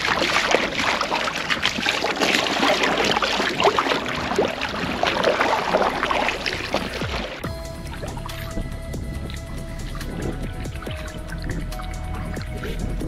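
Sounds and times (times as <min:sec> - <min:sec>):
water splashing around kayak: 0:00.0 - 0:13.0.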